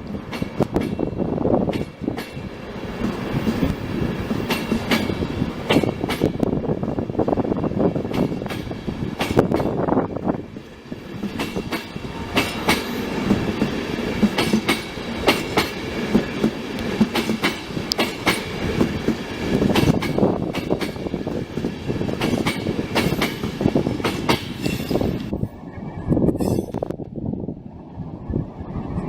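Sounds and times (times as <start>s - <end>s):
train wheels clacking on track: 0.0s - 6.8s, 7.5s - 25.3s
train rumble: 0.0s - 29.0s.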